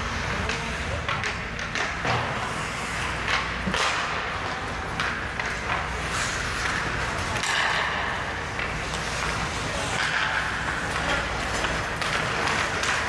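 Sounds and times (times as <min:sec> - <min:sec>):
skates scraping ice: 0:00.0 - 0:13.0
sticks clacking on puck: 0:00.3 - 0:13.0.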